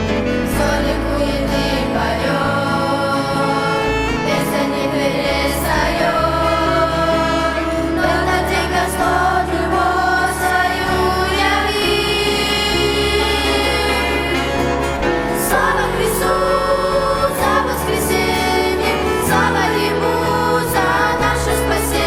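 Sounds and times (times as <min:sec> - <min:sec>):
choir singing a hymn: 0:00.0 - 0:22.0
instrumental accompaniment: 0:00.0 - 0:22.0.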